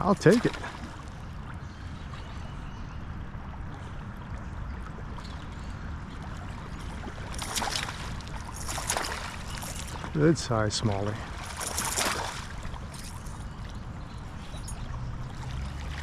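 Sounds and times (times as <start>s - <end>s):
creek water running: 0.0s - 2.4s, 3.1s - 16.0s.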